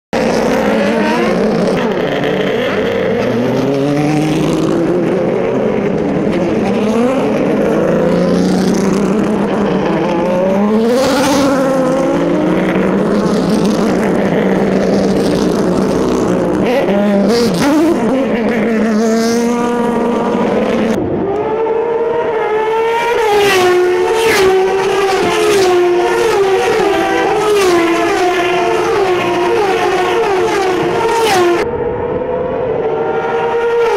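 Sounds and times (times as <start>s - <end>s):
race car engines at full throttle: 0.1s - 33.9s.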